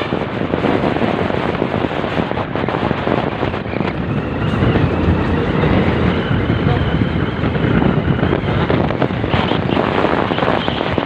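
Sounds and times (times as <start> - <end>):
vehicle tyres on road: 0.0 - 11.0
wind buffeting microphone: 0.0 - 11.0.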